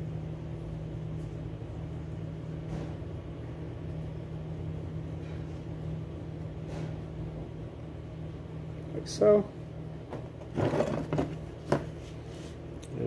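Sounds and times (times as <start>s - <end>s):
machine humming: 0.0s - 11.9s.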